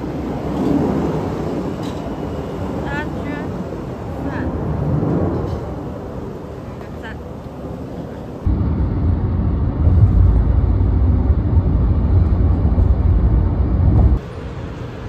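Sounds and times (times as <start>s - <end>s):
vehicle road and wind noise: 0.0s - 15.0s.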